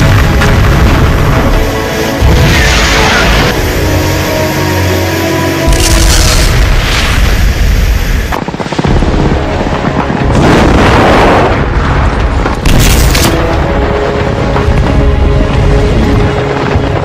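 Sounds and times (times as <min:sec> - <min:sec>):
heavy booming rumble: 0:00.0 - 0:04.9, 0:05.7 - 0:17.0.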